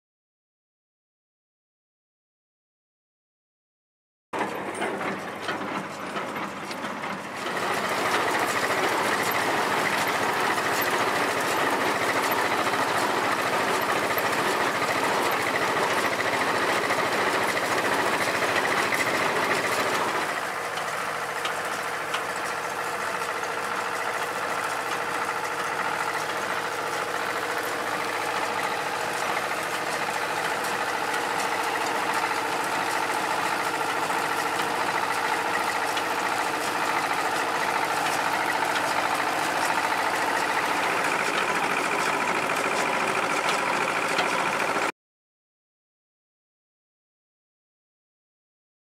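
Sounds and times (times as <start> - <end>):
diesel engine running: 4.4 - 44.9.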